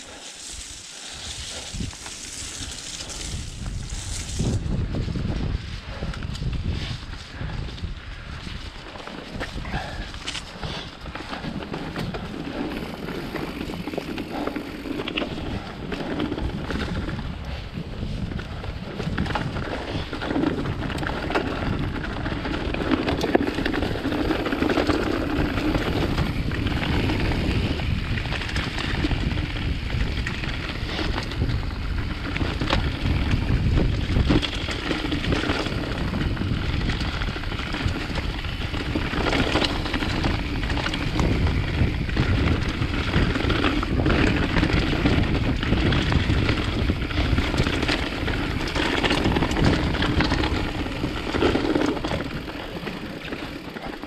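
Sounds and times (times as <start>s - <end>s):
bike tyre noise: 0.0s - 54.0s
wind noise on microphone: 0.0s - 54.0s
bike clicks and knocks: 8.4s - 17.6s, 18.3s - 54.0s.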